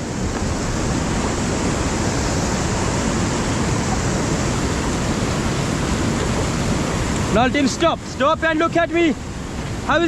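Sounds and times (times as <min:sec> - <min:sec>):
river water rushing: 0:00.0 - 0:10.0
wind buffeting microphone: 0:00.0 - 0:10.0.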